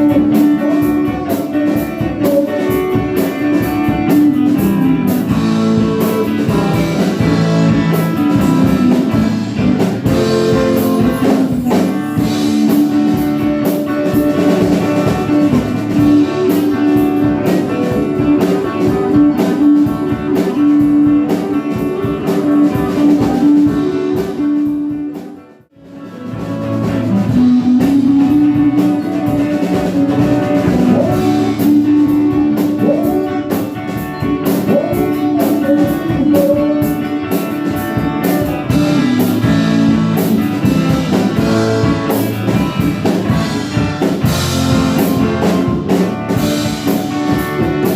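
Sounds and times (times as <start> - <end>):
guitar and drum music: 0.0 - 47.9.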